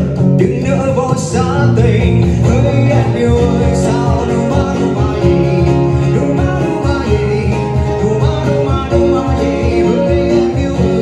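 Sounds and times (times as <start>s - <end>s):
pop music over speaker: 0.0s - 11.0s.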